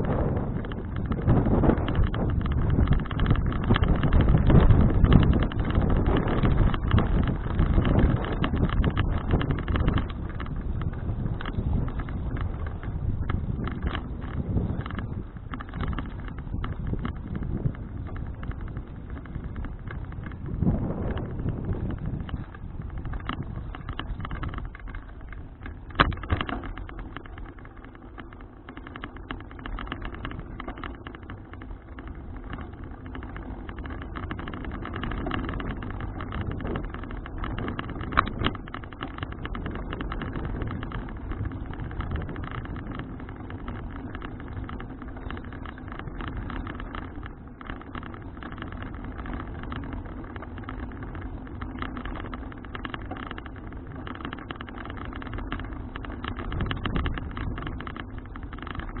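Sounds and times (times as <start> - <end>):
bicycle knocks and rattles: 0.0 - 59.0
bicycle road and wind noise: 0.0 - 59.0.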